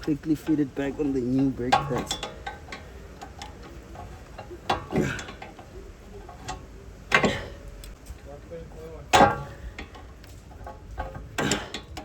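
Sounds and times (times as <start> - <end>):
hand tool clicking and scraping: 0.0 - 12.0.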